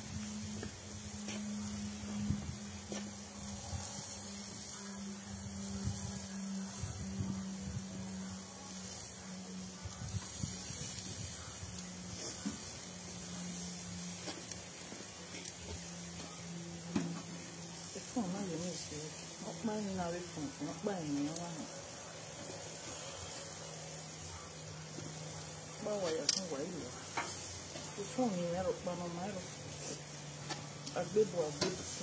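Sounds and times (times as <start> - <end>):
meat sizzling on grill: 0.0 - 32.0
steady low hum: 0.0 - 32.0.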